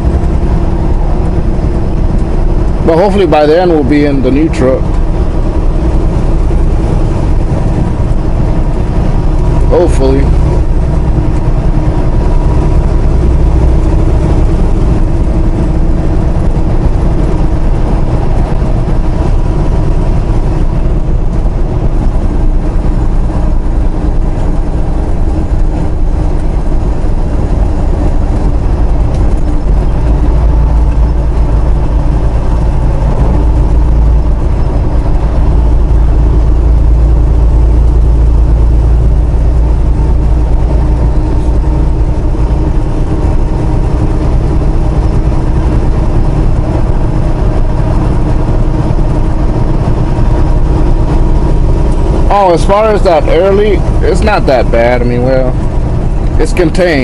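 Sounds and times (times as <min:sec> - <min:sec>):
diesel engine droning: 0:00.0 - 0:57.0
road noise: 0:00.0 - 0:57.0.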